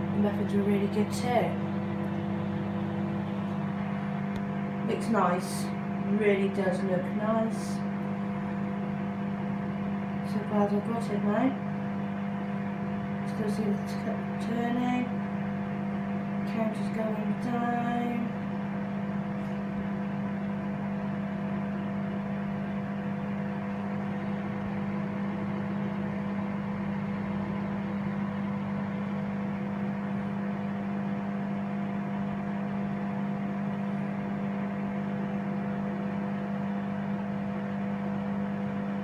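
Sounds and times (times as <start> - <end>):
microwave oven humming: 0.0 - 39.0.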